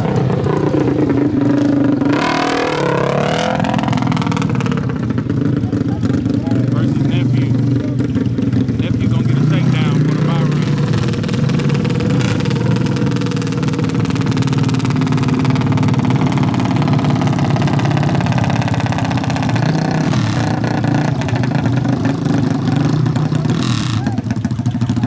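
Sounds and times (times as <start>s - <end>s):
atv engines running: 0.0s - 25.0s.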